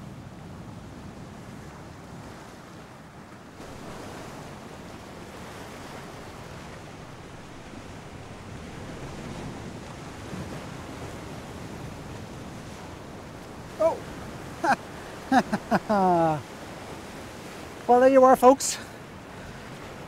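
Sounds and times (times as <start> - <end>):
wind buffeting microphone: 0.0 - 17.9
sea waves washing on rocks: 0.7 - 20.0.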